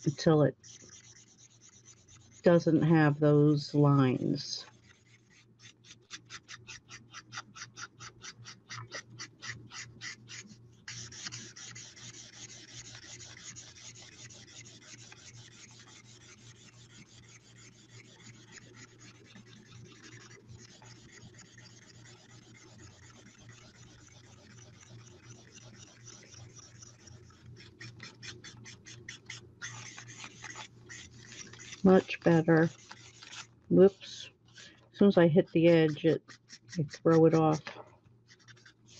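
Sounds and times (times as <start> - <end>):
marker rubbing on cardstock: 0.0 - 2.5, 4.6 - 33.5, 35.4 - 37.7, 38.3 - 38.9.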